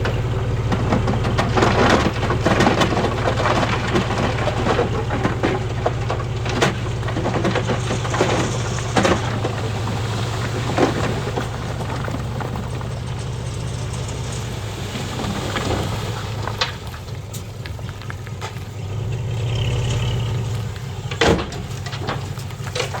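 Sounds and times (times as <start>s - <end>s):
metal clanks and scrapes: 0.0s - 17.9s, 19.5s - 23.0s
heavy diesel machinery running: 0.0s - 23.0s.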